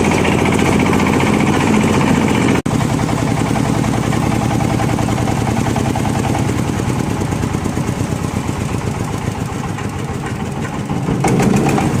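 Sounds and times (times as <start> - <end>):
wood grinding machine running: 0.0 - 12.0.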